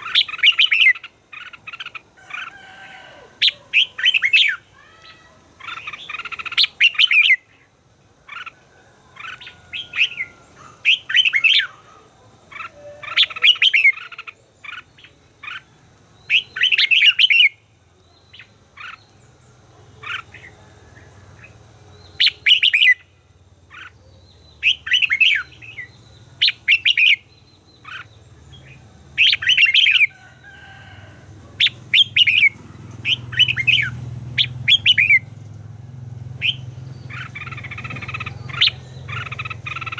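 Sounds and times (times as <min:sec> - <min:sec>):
birds singing warbling phrases: 0:00.0 - 0:39.9.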